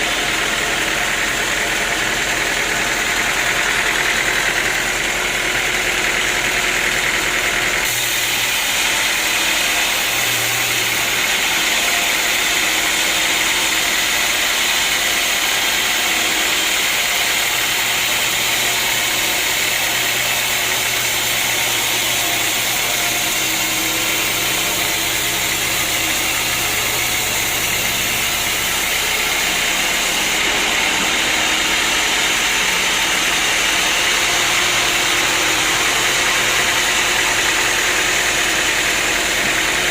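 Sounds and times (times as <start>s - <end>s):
sawmill machinery noise: 0.0s - 39.9s.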